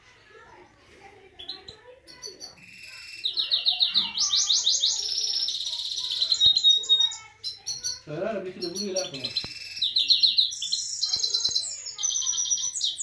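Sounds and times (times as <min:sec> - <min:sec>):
birds singing: 0:00.6 - 0:13.0.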